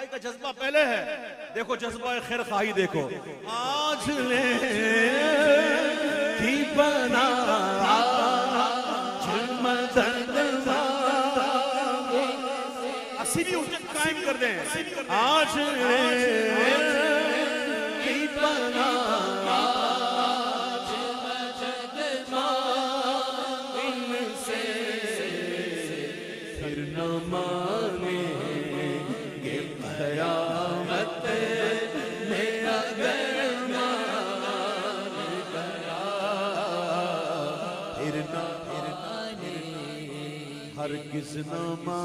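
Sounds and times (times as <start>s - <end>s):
man singing into a microphone: 0.0s - 42.0s.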